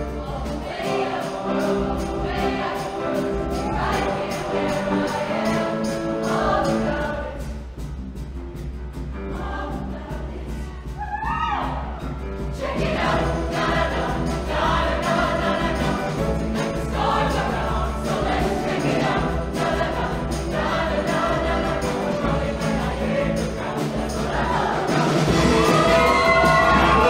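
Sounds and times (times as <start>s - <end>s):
choir singing in unison: 0.0s - 7.8s, 9.2s - 11.0s, 11.6s - 27.0s
band accompaniment with strong bass: 0.0s - 27.0s.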